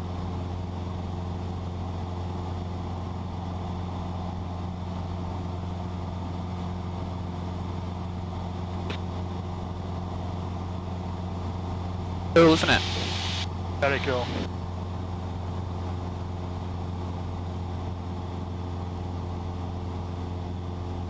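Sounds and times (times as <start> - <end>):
airplane engine and propeller droning: 0.1 - 21.0.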